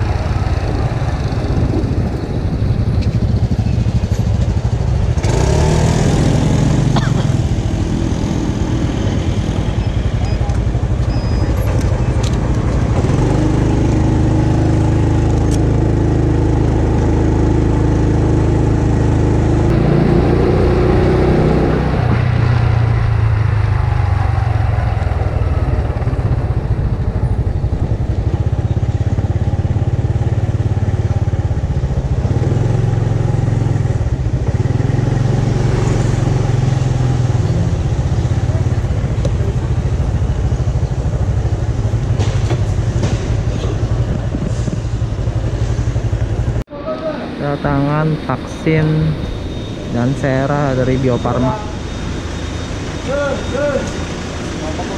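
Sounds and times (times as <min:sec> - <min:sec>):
motor scooter engine running: 0:00.0 - 0:21.4, 0:22.6 - 0:46.6.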